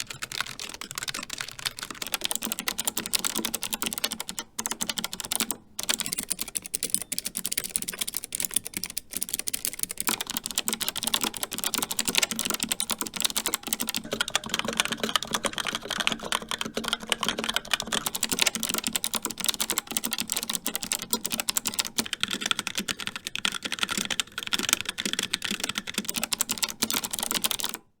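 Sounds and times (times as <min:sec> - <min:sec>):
fast typing on mechanical keyboard: 0:00.0 - 0:28.0.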